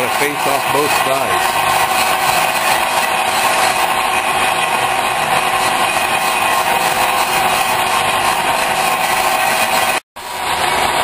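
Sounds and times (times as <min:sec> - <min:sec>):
metal lathe turning steel: 0:00.0 - 0:11.0.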